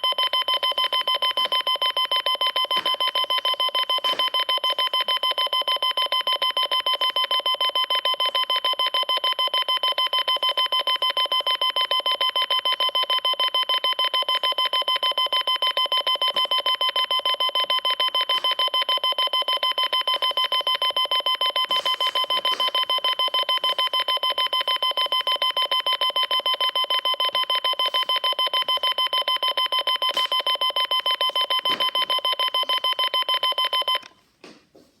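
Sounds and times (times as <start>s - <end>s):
electronic alarm beeping: 0.0s - 34.1s.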